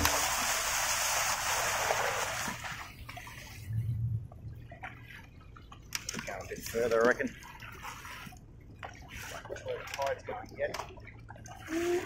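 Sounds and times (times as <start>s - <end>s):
water lapping against hull: 0.0s - 12.0s
water rushing along boat hull: 0.0s - 12.0s.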